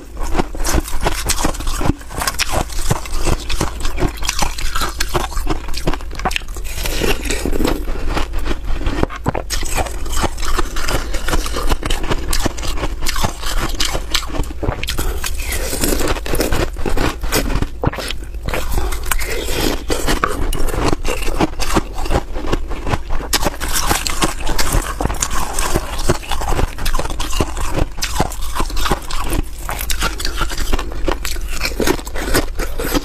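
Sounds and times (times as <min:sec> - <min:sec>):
ice being chewed crunching: 0:00.0 - 0:33.0.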